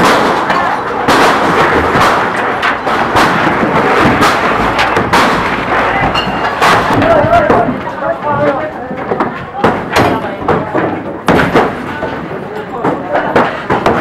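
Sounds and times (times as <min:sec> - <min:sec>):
crowd din: 0:00.0 - 0:14.0
loud sharp bangs: 0:00.0 - 0:14.0.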